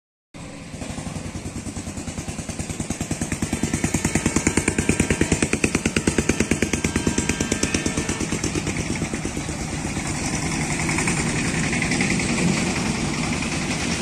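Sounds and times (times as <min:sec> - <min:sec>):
diesel locomotive engine throbbing: 0:00.4 - 0:14.0.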